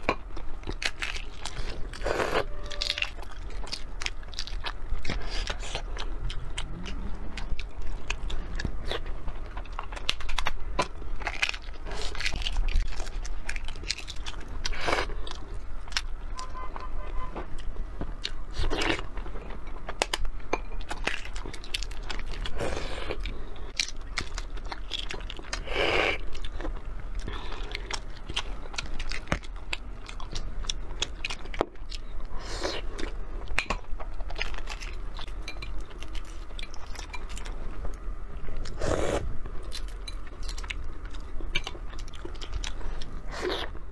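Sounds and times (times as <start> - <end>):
chewing and mouth sounds: 0.0 - 16.1, 17.4 - 43.9.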